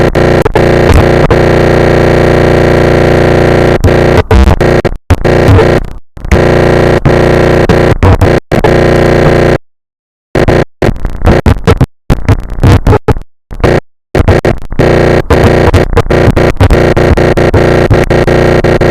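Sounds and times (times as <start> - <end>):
distorted electronic droning noise: 0.0 - 9.6, 10.4 - 18.9.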